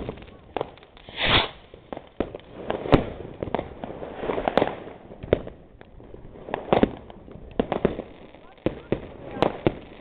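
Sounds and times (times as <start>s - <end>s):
fireworks banging: 0.0s - 10.0s.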